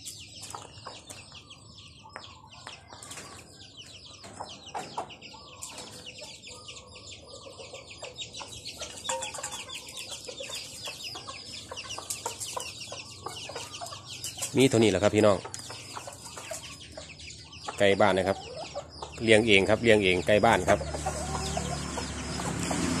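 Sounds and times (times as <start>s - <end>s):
chicks peeping: 0.0s - 23.0s
hen clucking: 2.0s - 23.0s.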